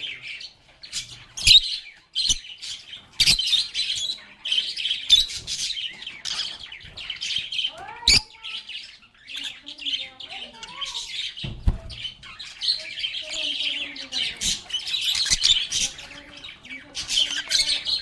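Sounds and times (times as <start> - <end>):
lovebirds chattering: 0.0 - 18.0.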